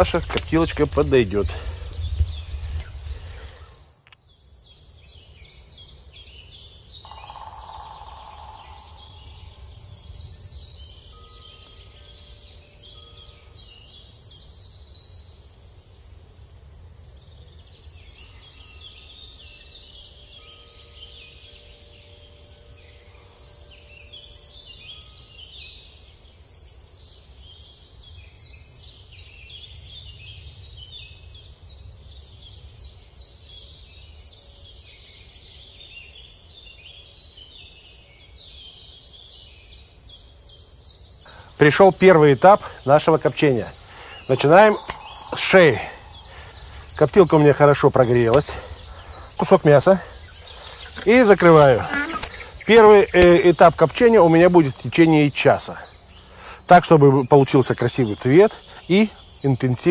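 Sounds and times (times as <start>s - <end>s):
small birds chirping: 0.0s - 15.3s, 17.3s - 59.9s.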